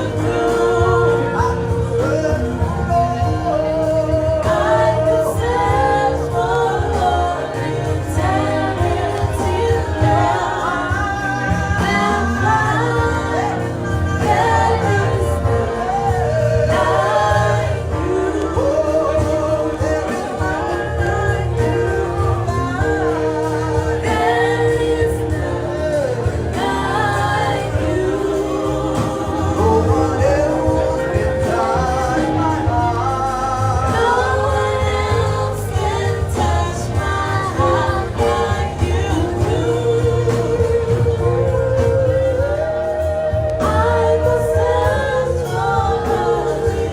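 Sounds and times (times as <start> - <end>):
band with steady bass: 0.0 - 46.9
gospel singing voices: 0.0 - 46.9.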